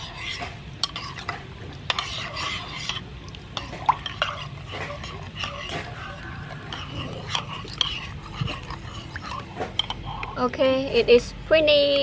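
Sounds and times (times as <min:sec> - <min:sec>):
liquid swishing in a pot: 0:00.0 - 0:10.5.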